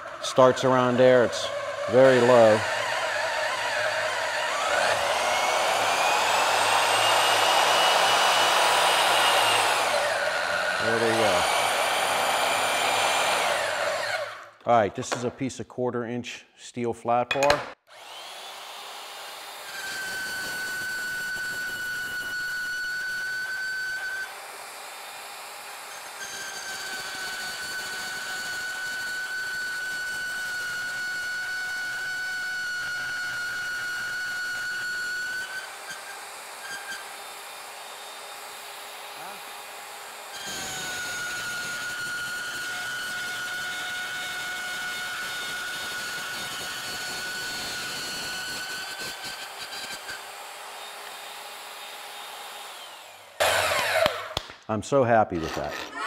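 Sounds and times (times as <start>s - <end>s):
band saw cutting steel: 0.0s - 15.2s, 17.4s - 56.0s.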